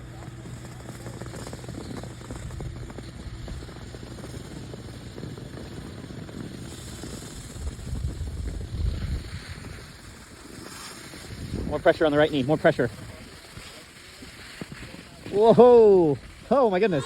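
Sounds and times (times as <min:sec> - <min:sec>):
skis sliding over snow: 0:00.0 - 0:17.0
wind rumbling on microphone: 0:01.0 - 0:16.5.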